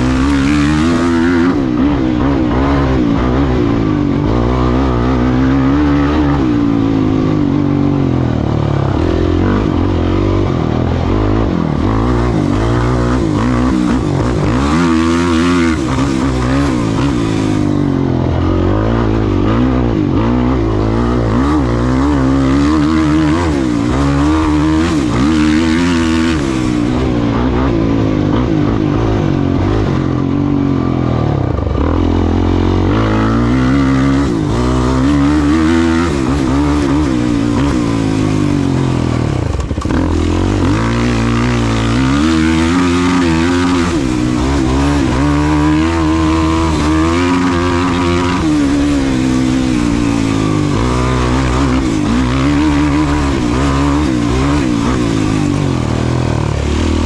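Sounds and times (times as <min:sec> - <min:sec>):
race vehicle engine revving: 0:00.0 - 0:57.0.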